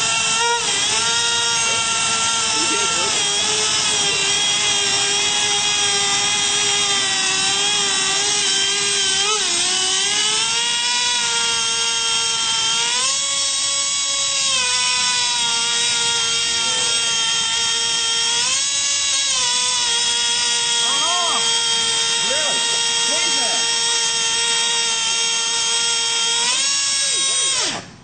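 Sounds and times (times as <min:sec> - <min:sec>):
small engine high-pitched whine: 0:00.0 - 0:28.0.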